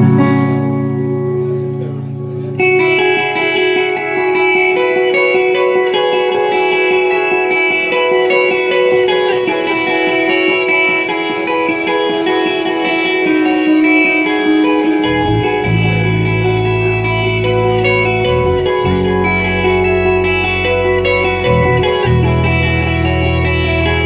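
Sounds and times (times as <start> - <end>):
low bass notes: 0.0 - 5.3, 8.3 - 24.0
sustained guitar notes: 0.0 - 24.0.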